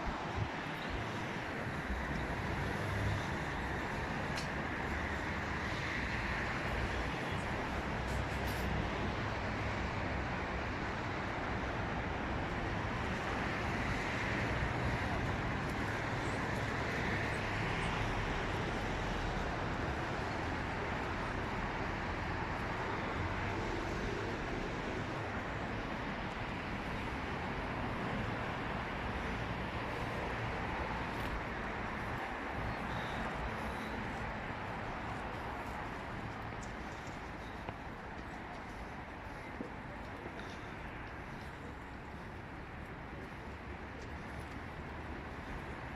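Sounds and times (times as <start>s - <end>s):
road traffic hum: 0.0s - 45.9s
vehicles passing: 0.0s - 45.9s.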